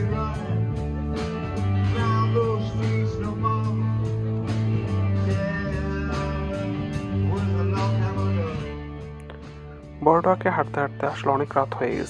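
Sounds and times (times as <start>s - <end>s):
song with singing and guitar: 0.0s - 12.0s.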